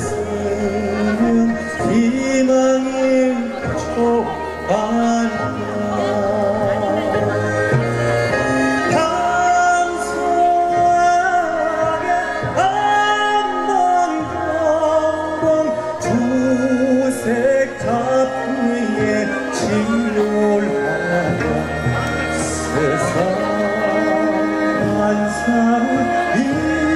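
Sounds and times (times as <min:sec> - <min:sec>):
traditional orchestra playing: 0:00.0 - 0:26.9.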